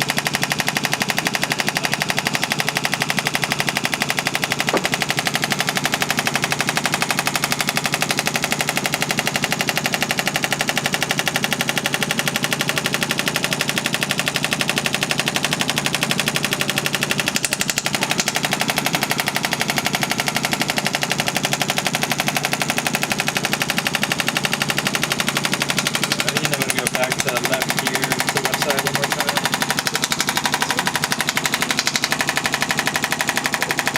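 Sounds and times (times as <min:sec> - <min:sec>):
rapid sharp clicks: 0:00.0 - 0:33.9.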